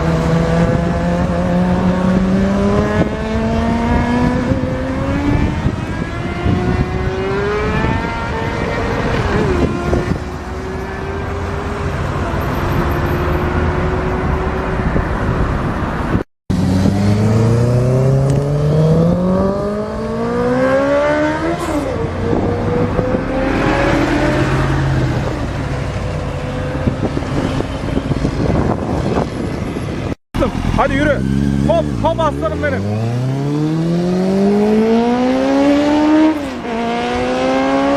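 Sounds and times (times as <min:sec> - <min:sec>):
wind noise: 0:00.0 - 0:30.8
motorcycle engine accelerating: 0:00.0 - 0:37.9.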